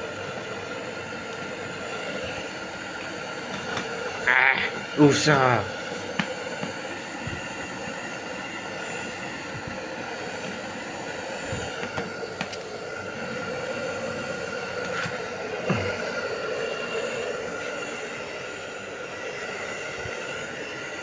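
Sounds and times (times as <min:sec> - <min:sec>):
blow dryer running: 0:00.0 - 0:21.0.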